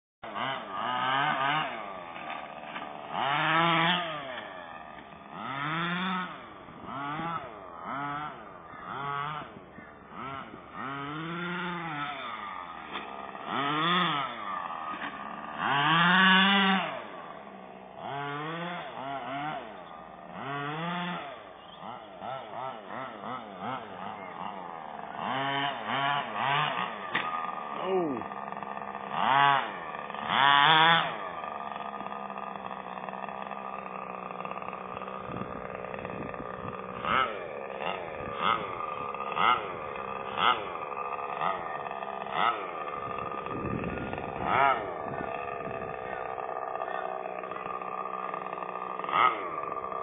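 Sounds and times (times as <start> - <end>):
two-stroke engine revving: 0.2 - 50.0.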